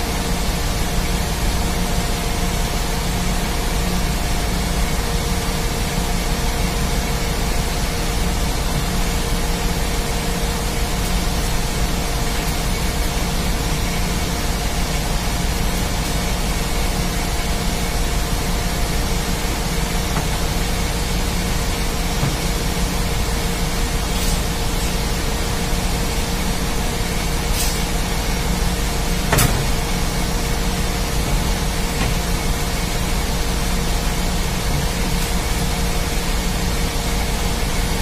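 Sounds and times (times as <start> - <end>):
engine room machinery rushing: 0.0 - 38.0.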